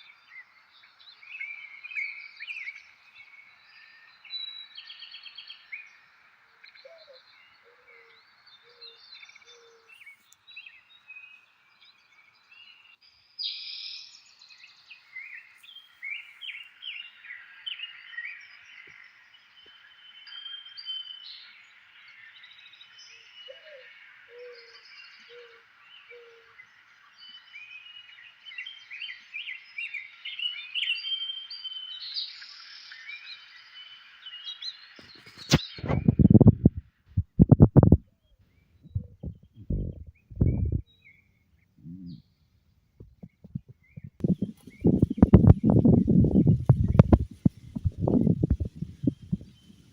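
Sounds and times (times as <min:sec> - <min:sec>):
birds singing and chirping: 0:00.0 - 0:36.8, 0:37.4 - 0:49.9.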